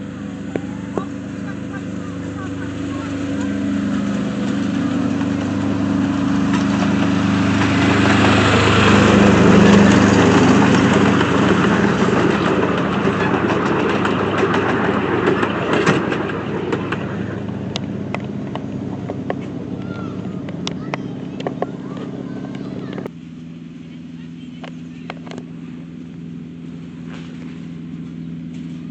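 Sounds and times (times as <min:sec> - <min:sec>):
miniature locomotive engine passing: 0:00.0 - 0:28.9.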